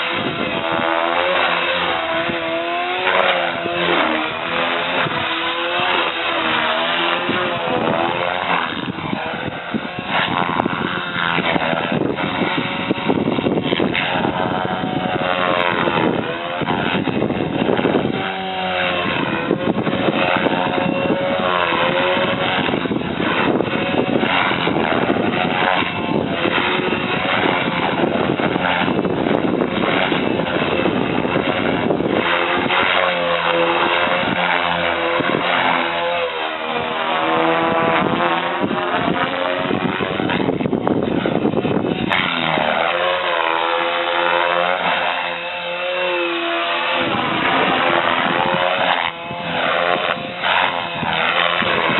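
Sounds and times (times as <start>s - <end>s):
rc helicopter rotor and motor whine: 0.0s - 51.9s.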